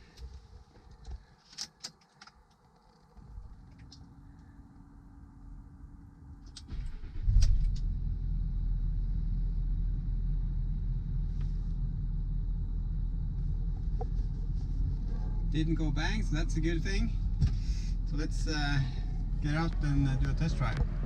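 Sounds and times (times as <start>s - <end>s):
car engine cranking and idling: 2.0s - 21.0s.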